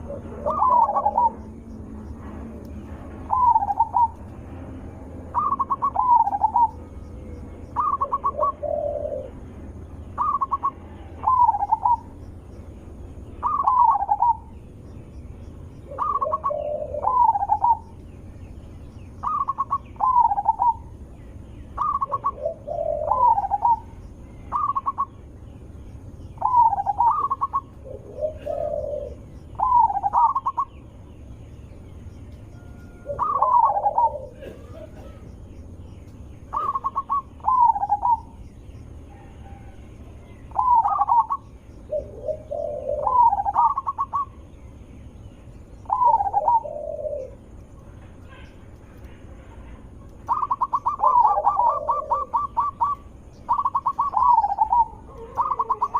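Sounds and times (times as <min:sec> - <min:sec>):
dove cooing: 0:00.0 - 0:14.7, 0:15.5 - 0:18.3, 0:19.1 - 0:25.4, 0:26.3 - 0:30.9, 0:32.4 - 0:44.6, 0:45.5 - 0:55.9.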